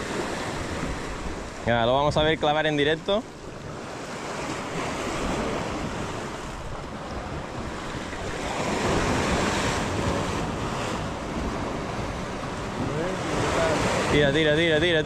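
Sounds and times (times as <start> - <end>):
waves breaking on rocky shore: 0.0 - 15.0.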